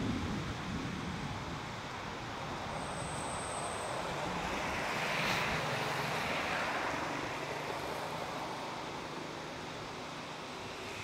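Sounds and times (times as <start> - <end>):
steady rushing outdoor noise: 0.0 - 11.0.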